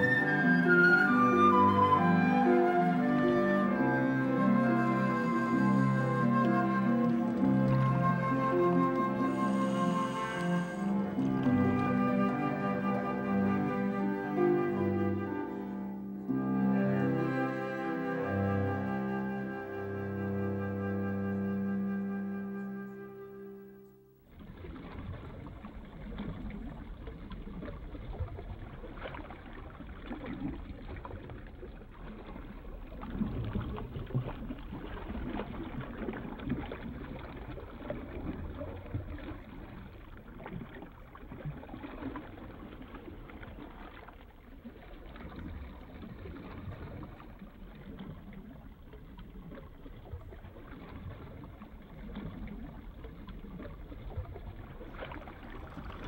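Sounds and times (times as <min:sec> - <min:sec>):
water sloshing: 0:00.0 - 0:16.4, 0:24.1 - 0:56.0.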